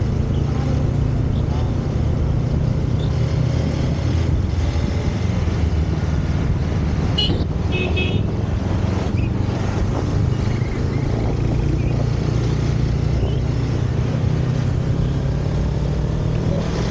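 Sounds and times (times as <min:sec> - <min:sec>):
motorcycle engine humming: 0:00.0 - 0:16.9
wind and road noise: 0:00.0 - 0:16.9.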